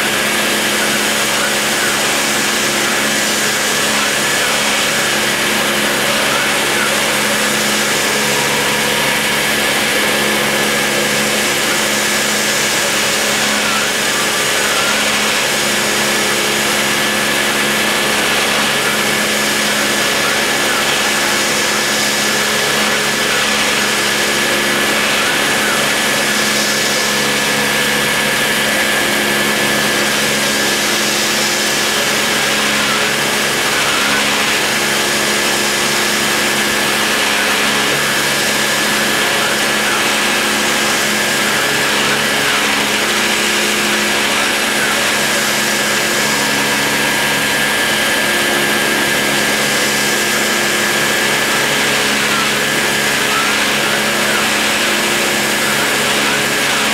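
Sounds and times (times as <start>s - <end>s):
low machine hum: 0.0s - 56.9s
rotary tool whining: 0.0s - 56.9s.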